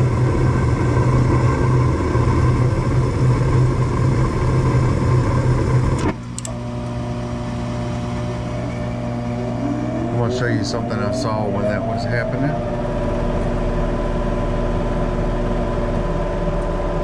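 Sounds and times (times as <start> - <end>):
furnace motor humming: 0.0 - 17.0.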